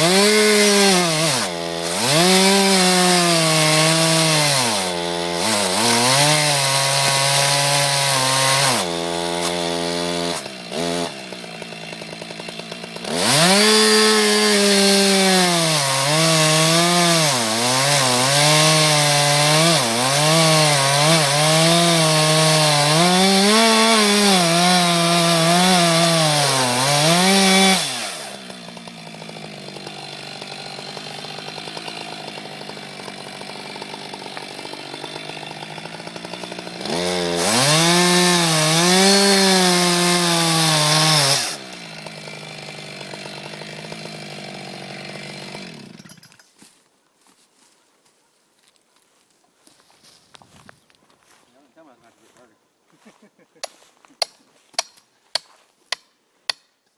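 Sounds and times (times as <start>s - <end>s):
chainsaw cutting wood: 0.0s - 46.8s, 53.0s - 56.9s.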